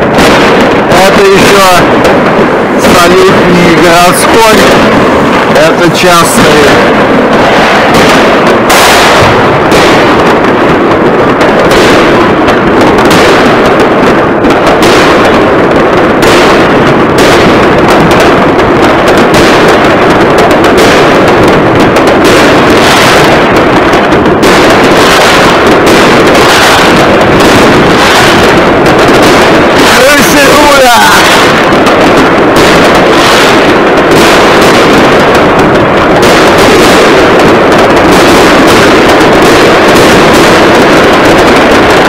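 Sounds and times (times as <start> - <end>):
fireworks and firecrackers banging: 0.0 - 42.0.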